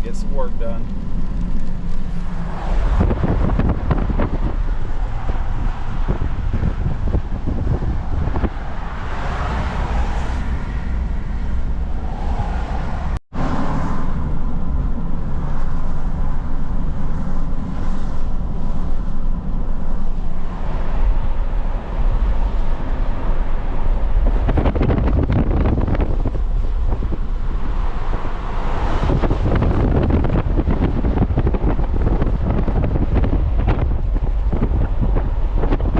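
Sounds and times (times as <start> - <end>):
truck engine drone: 0.0 - 35.9
wind buffeting microphone: 0.3 - 13.2, 14.1 - 35.9.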